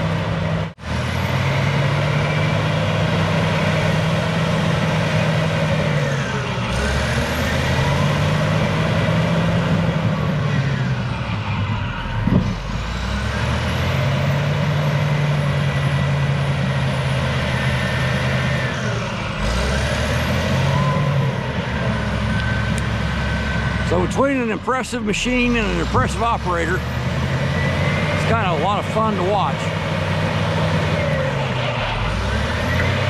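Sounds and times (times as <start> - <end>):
bulldozer diesel engine under load: 0.0 - 33.0.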